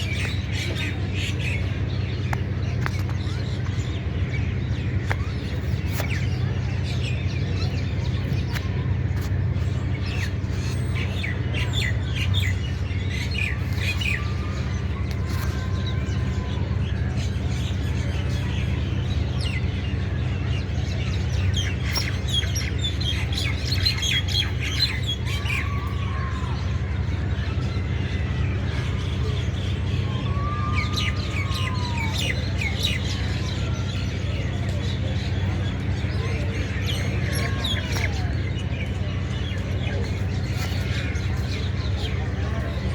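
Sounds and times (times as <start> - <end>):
small birds chirping: 0.0 - 42.9
steady low rumble: 0.0 - 42.9.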